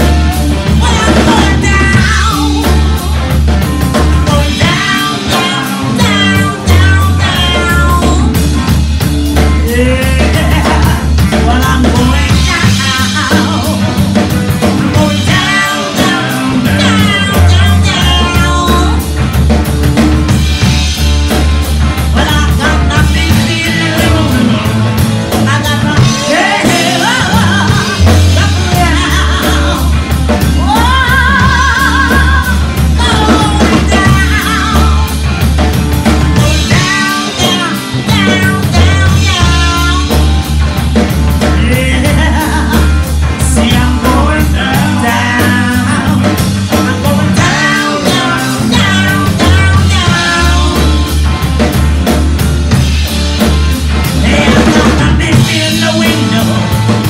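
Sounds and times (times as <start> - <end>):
woman singing: 0.0 - 8.7, 9.3 - 19.4, 22.0 - 35.4, 36.0 - 51.7, 54.0 - 57.0
drum kit: 0.0 - 57.0
electric bass: 0.0 - 57.0
electric guitar: 0.0 - 57.0.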